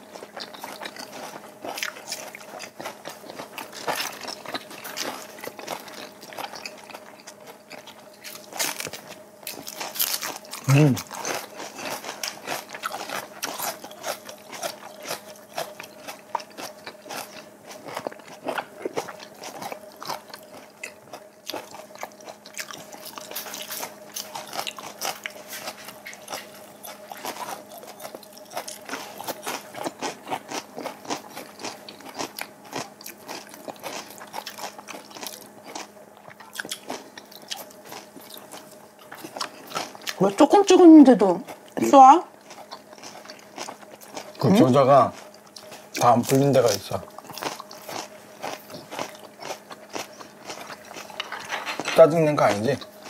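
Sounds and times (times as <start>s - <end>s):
chewing crunchy raw vegetables: 0.0s - 53.0s
faint steady hum: 0.0s - 53.0s.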